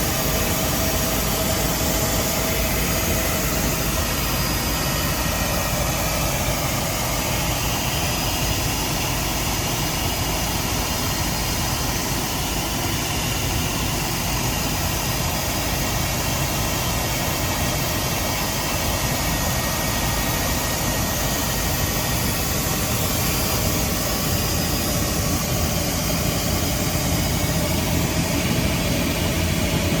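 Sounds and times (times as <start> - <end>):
helicopter turbine and rotor noise: 0.0 - 30.0.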